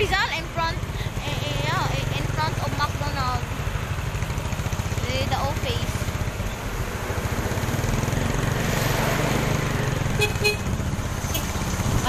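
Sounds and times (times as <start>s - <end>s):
small motorcycle engine running: 0.1s - 12.0s.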